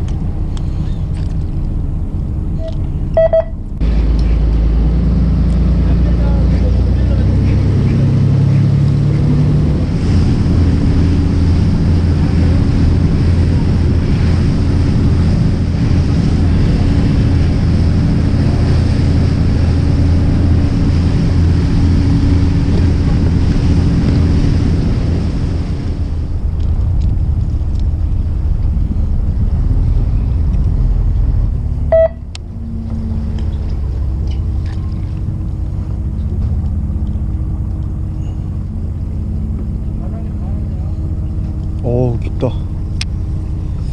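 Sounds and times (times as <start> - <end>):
boat engine running: 0.0 - 43.9
water noise: 0.0 - 43.9
wind: 0.0 - 43.9.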